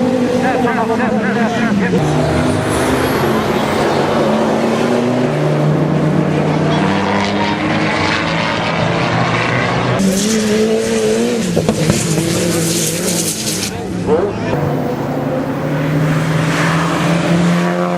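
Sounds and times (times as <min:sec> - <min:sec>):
race car engines at high revs: 0:00.0 - 0:17.9.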